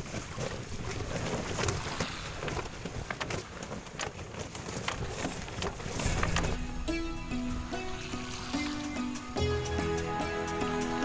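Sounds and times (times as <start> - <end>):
water splashing against canoe: 0.0 - 9.5.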